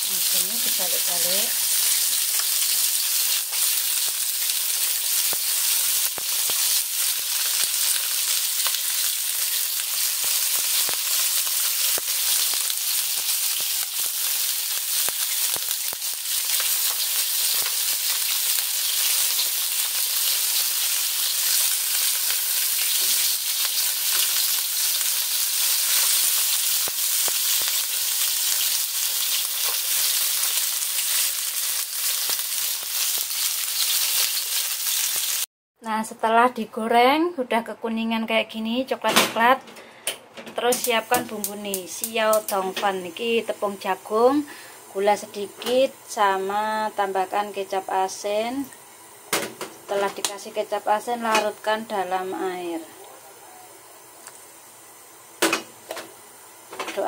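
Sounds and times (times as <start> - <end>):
food sizzling in hot oil: 0.0 - 35.5, 40.7 - 52.9, 54.0 - 57.0.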